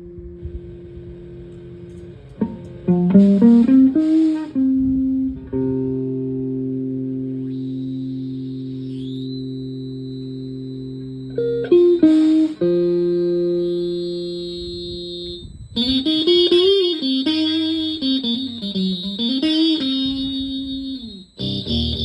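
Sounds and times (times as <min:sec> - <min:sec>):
buzzy electronic tones: 0:00.0 - 0:22.0.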